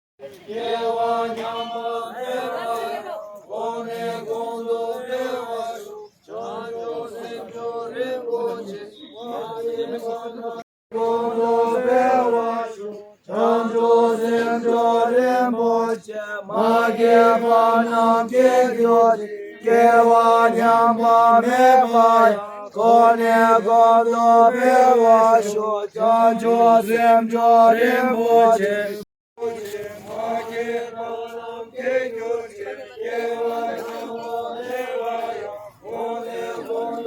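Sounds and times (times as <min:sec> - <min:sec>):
voices chanting in unison: 0:00.2 - 0:37.0.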